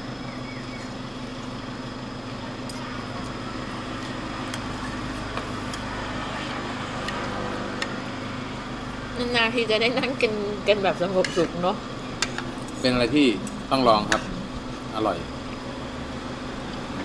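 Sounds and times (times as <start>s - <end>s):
restaurant hum: 0.0s - 17.0s.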